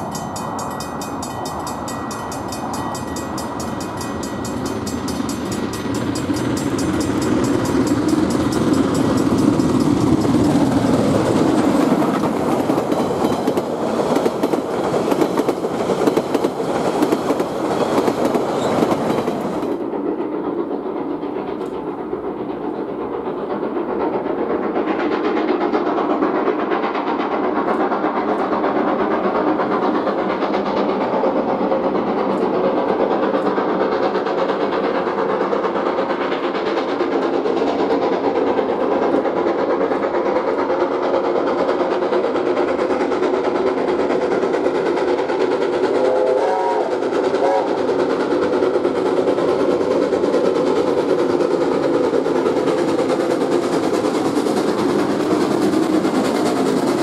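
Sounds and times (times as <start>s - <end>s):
wheels clattering over rails: 0.0s - 46.0s
distant train: 0.0s - 57.0s
train passing: 0.0s - 57.0s.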